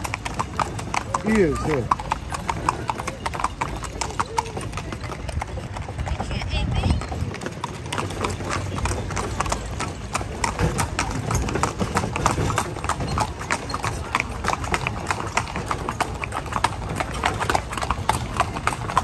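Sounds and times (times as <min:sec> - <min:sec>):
horse hooves clip-clopping on road: 0:00.0 - 0:19.0.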